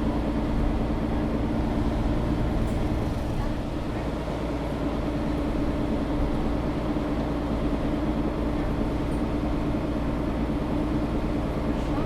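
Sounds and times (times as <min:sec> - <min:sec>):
bus engine drone inside cabin: 0:00.0 - 0:12.0.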